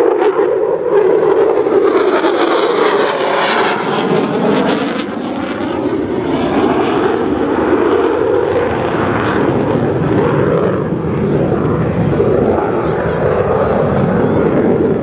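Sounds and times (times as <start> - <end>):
fighter jet roaring past: 0.0 - 15.0.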